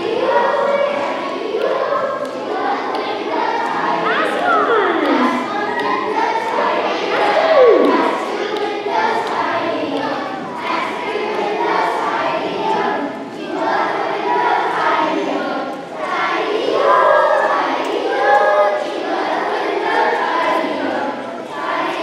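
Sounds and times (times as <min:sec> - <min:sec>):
children singing together: 0:00.0 - 0:22.0.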